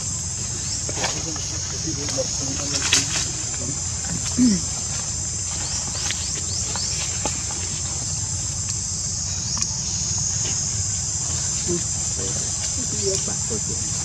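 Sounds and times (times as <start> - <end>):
insects buzzing: 0.0 - 14.0
low rumble: 0.0 - 14.0.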